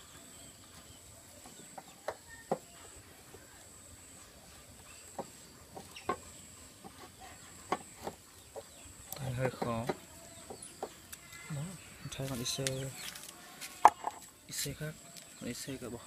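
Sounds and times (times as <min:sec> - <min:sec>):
chickens clucking: 0:00.0 - 0:14.3.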